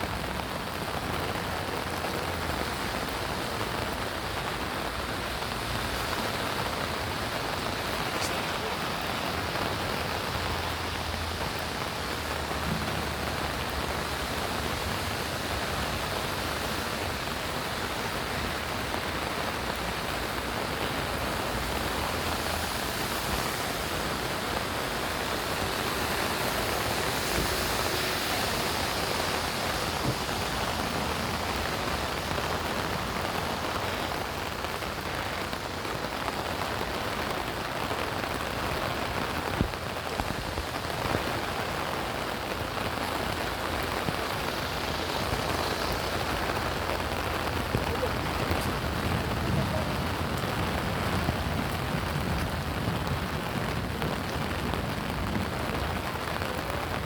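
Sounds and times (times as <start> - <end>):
rain falling on surfaces: 0.0 - 57.0.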